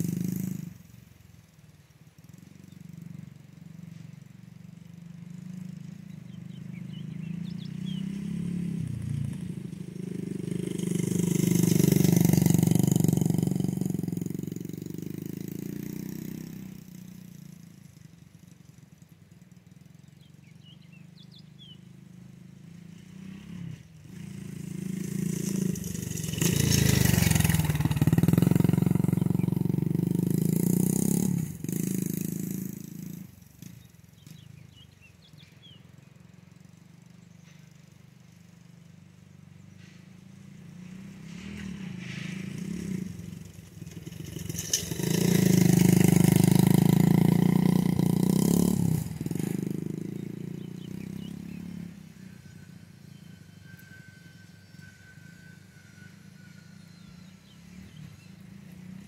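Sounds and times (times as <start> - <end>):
dirt bike engine passing by: 0.0 - 59.0.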